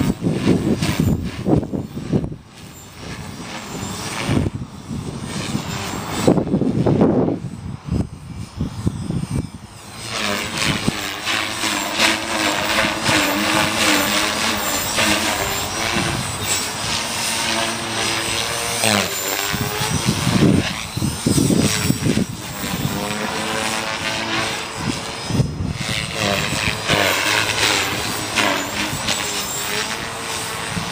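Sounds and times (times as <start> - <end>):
model helicopter rotor whine: 0.0 - 30.9
wind buffeting microphone: 0.0 - 30.9.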